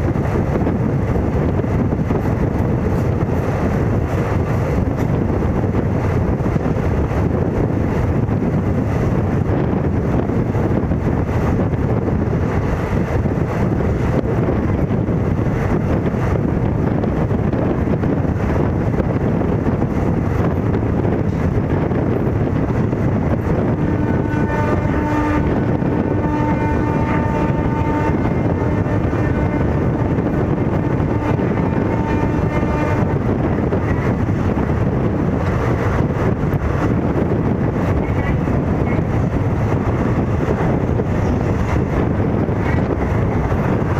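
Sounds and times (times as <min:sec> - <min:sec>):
train rushing: 0:00.0 - 0:43.9
wind buffeting microphone: 0:00.0 - 0:43.9.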